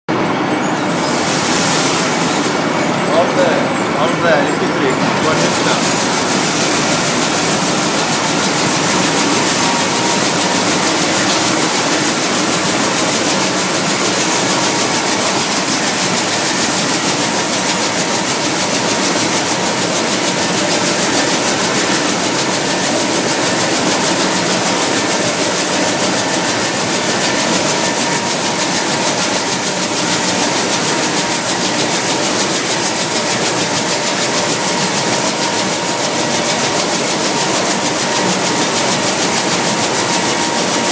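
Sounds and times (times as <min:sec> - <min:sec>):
nut roasting machine running: 0:00.1 - 0:40.9.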